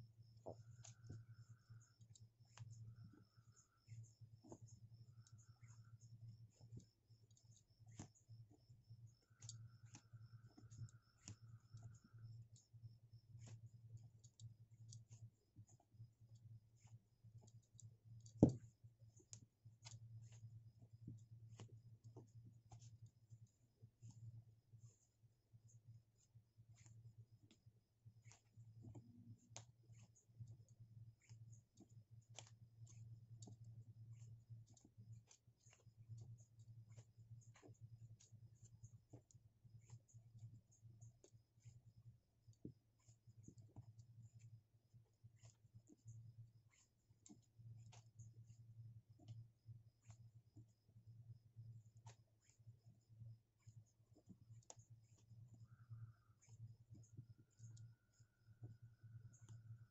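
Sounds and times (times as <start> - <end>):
light clicks and rustles of cord: 0.0 - 59.9.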